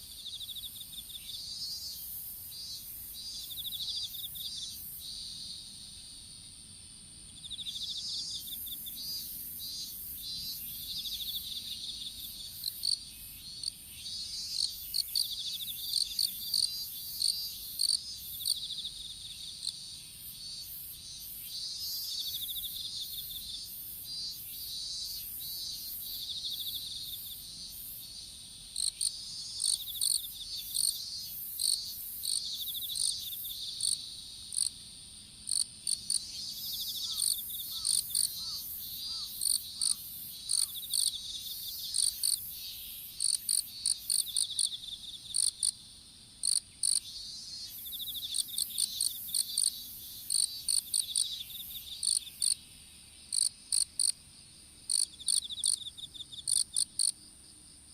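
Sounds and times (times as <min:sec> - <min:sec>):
insect high-pitched whine: 0:00.0 - 0:06.5, 0:07.3 - 0:57.9
insects chirping trills: 0:00.0 - 0:57.9.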